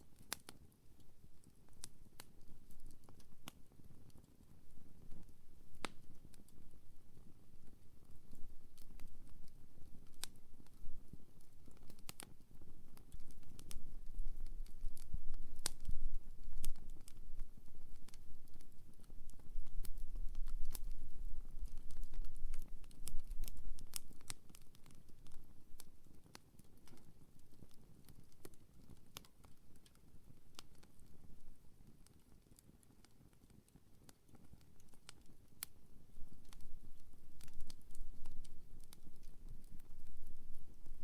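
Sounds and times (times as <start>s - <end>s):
wood campfire crackling: 0.0s - 41.0s.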